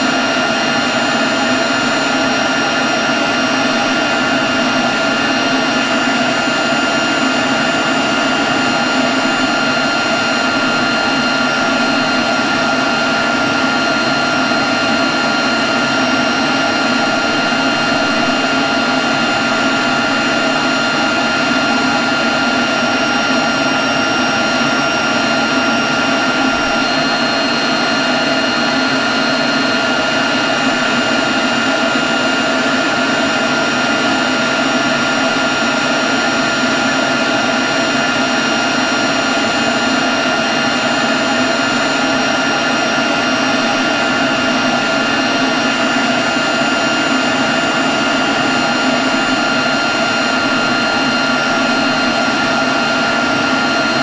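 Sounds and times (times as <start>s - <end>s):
leaf blower running: 0.0s - 54.0s.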